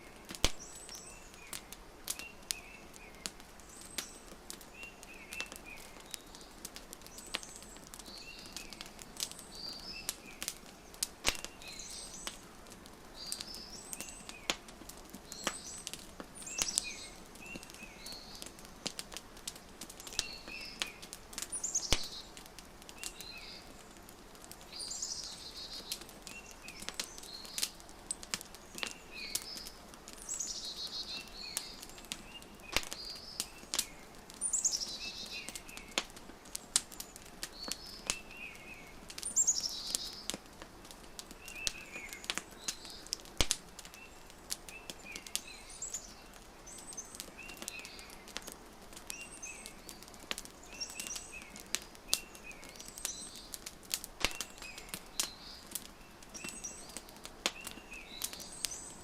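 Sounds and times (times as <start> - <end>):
birds chirping: 0.0 - 12.4, 13.0 - 14.6, 15.2 - 59.0
wood fire crackling and popping: 0.0 - 59.0.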